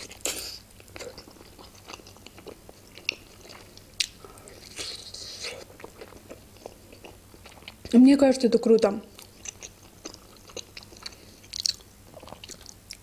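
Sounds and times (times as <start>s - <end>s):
close chewing mouth sounds: 0.0s - 8.0s, 8.7s - 13.0s.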